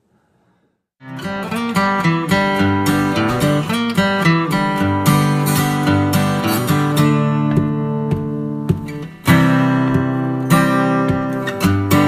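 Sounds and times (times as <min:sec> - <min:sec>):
acoustic guitar strumming chords: 0:01.0 - 0:12.0.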